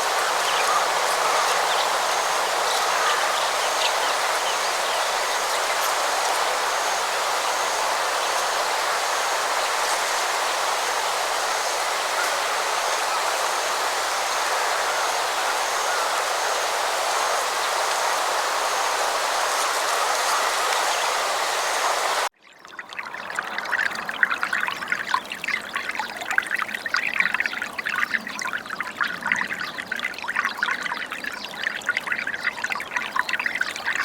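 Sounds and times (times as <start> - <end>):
running water: 0.0 - 34.0.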